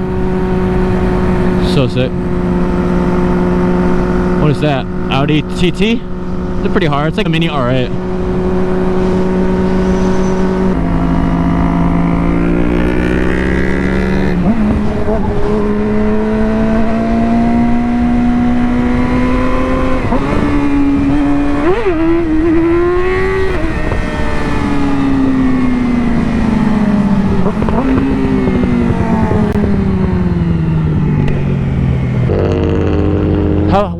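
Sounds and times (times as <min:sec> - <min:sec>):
motorcycle engine shifting gears: 0:00.0 - 0:33.9.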